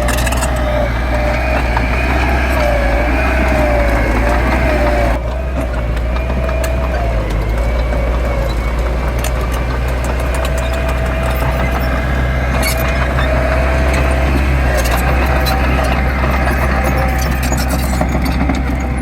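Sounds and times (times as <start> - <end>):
diesel engine running: 0.0 - 19.0
sharp clicks and knocks: 0.0 - 19.0.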